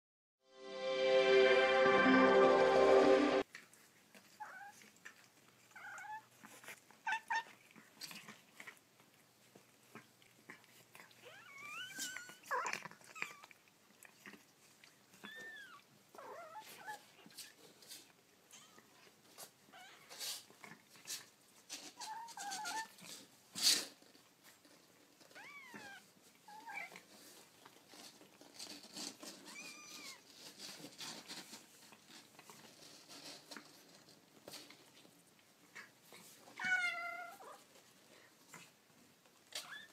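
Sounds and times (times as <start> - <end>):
rustling and scratching: 3.5 - 39.9.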